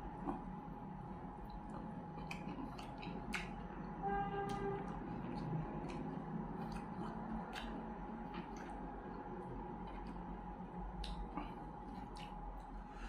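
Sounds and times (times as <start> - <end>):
steady low hum: 0.0 - 13.0
chewing and wet smacks: 0.1 - 13.0.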